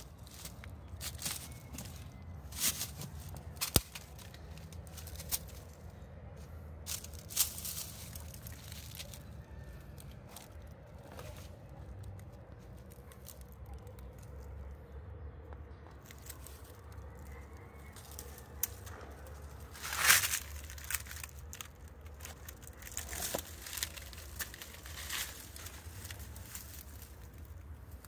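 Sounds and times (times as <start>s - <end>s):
leaves and twigs crackling underfoot: 0.0s - 14.7s, 15.8s - 28.0s.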